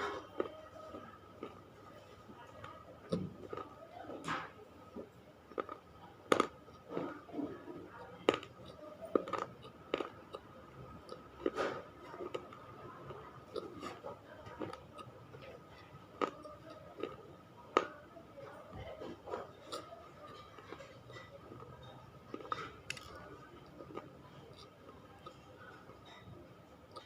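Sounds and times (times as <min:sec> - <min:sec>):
crunching and chewing clay: 0:00.0 - 0:27.0.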